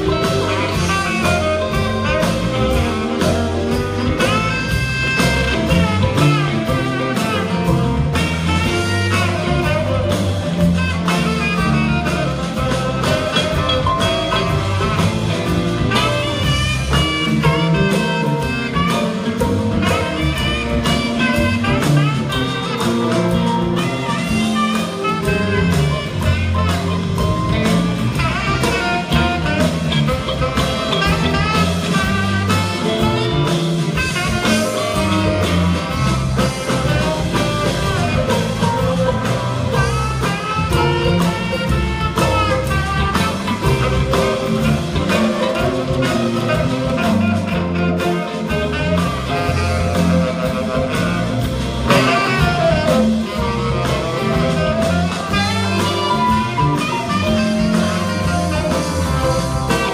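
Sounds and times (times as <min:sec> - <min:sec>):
live band playing instrumental: 0:00.0 - 0:59.9.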